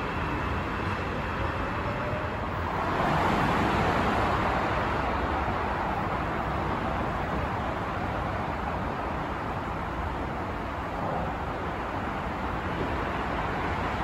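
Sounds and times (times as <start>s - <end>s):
train rumble and rushing: 0.0s - 14.0s.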